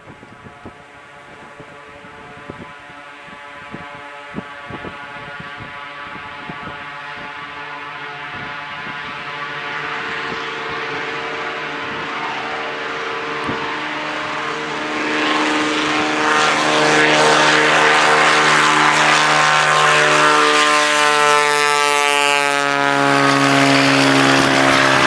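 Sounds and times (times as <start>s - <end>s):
propeller plane engine: 0.0s - 25.0s.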